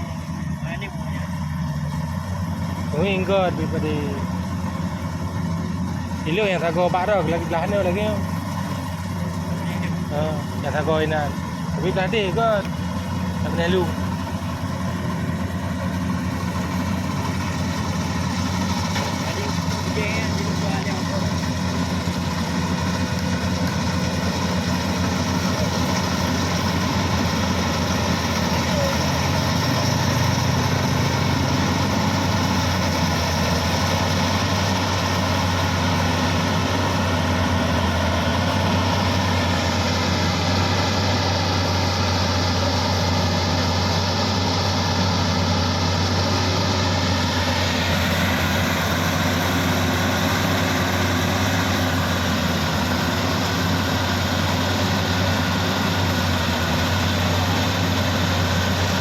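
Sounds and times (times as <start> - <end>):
harvester engine hum: 0.0 - 59.0
threshing machinery whine: 0.0 - 59.0.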